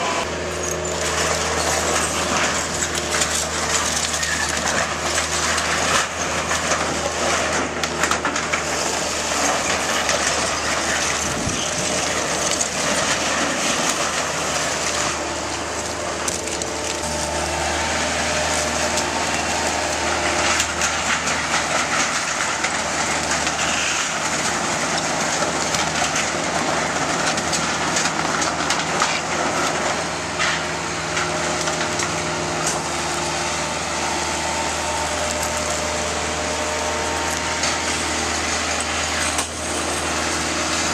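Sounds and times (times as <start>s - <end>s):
diesel engine running: 0.0s - 40.9s
wood and metal cracking and scraping: 0.0s - 40.9s.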